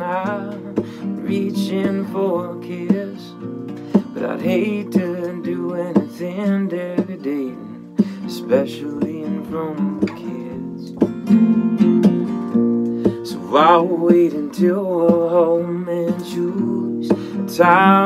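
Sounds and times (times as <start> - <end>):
man singing: 0.0 - 11.1, 13.0 - 18.0
acoustic guitar strumming: 0.0 - 18.0.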